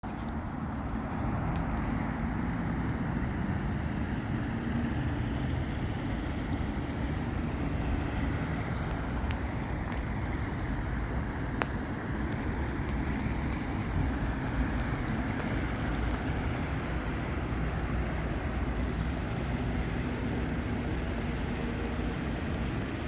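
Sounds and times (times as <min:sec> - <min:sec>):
rushing river water: 0:00.0 - 0:23.0
wind buffeting microphone: 0:00.0 - 0:23.0.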